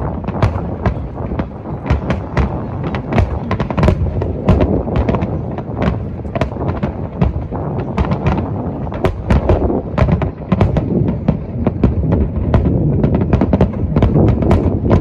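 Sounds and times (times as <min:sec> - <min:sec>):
firework bursts and crackles: 0:00.0 - 0:15.0.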